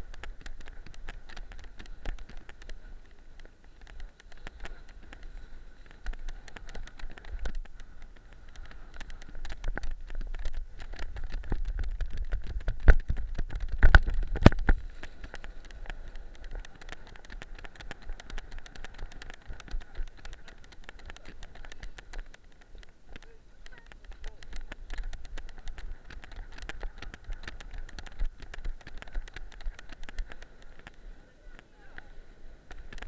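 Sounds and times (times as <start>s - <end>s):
wind rumbling on microphone: 0.0s - 33.0s.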